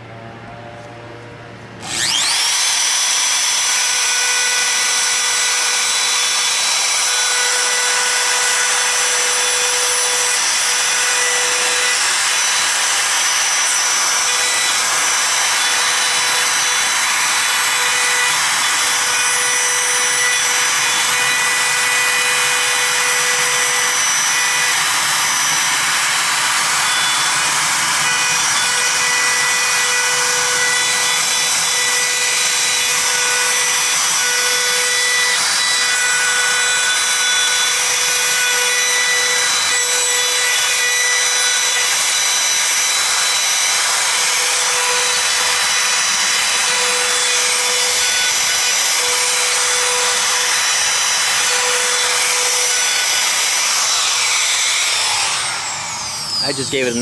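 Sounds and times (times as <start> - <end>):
router whining cutting wood: 0.0 - 57.0.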